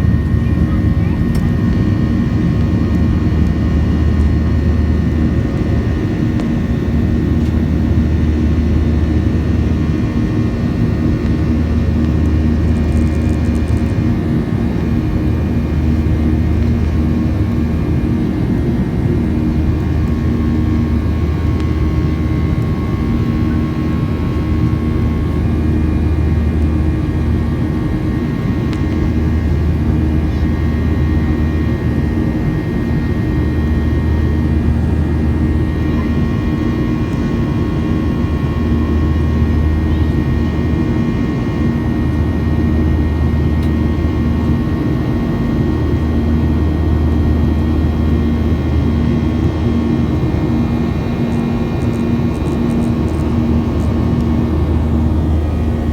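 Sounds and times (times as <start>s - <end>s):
faint steady whine: 0.0s - 55.9s
jet engine roar in cabin: 0.0s - 55.9s.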